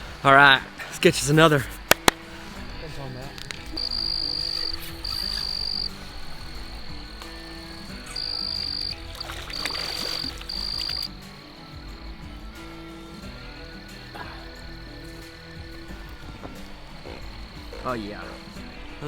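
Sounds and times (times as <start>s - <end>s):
soft background music: 0.0s - 19.0s
insect high-pitched buzzing: 1.8s - 19.0s.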